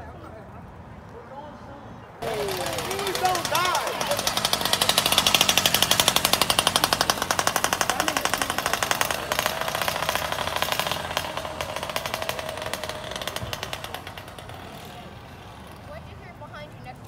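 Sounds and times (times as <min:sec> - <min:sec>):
bicycle freewheel hub clicking: 0:02.2 - 0:16.0.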